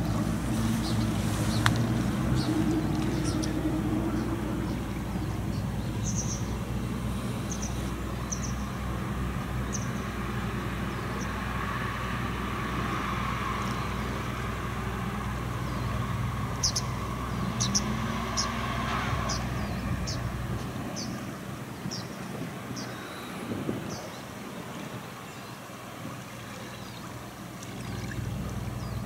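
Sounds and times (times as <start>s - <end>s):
distant engine hum: 0.0s - 29.0s.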